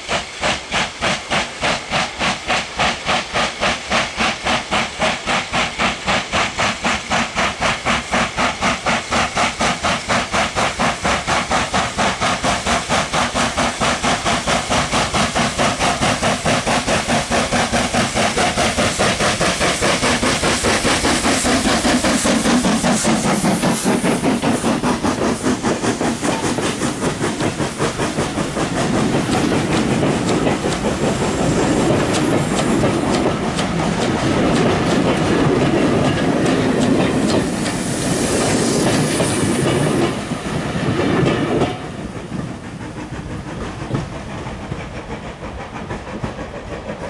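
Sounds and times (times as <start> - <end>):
wheels rumbling on rails: 7.0 - 47.0.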